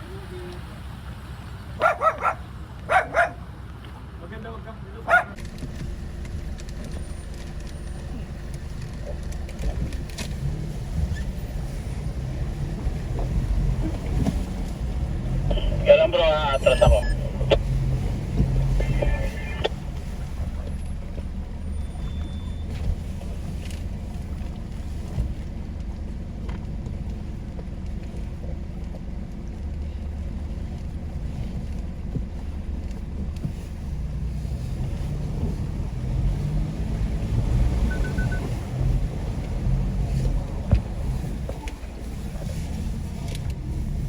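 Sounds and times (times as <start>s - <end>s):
vehicle engine low rumble: 0.0s - 44.0s.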